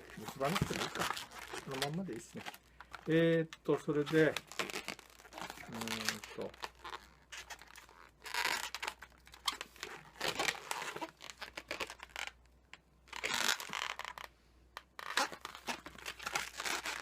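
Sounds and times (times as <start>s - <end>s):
balloons rubbing and squeaking: 0.0s - 17.0s.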